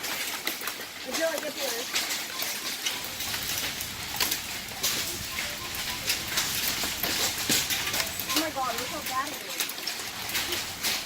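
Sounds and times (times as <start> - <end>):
hail hissing down: 0.0 - 11.0
hailstones knocking hard surfaces: 0.0 - 11.0.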